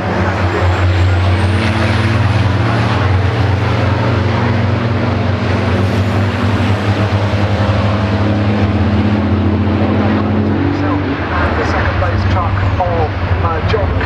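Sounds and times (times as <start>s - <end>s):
diesel truck engines droning: 0.0s - 14.0s.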